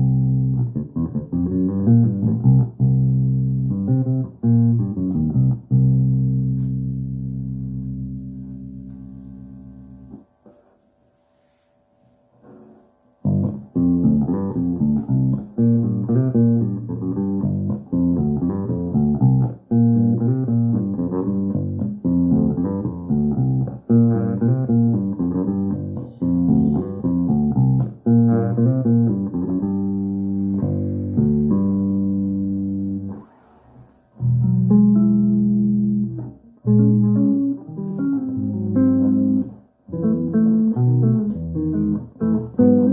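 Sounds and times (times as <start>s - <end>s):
electric bass guitar notes: 0.0s - 10.2s, 13.2s - 42.9s.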